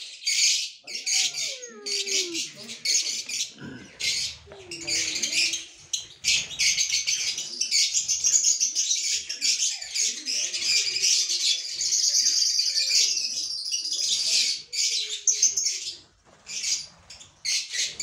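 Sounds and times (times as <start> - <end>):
flock of birds chirping: 0.0 - 18.0.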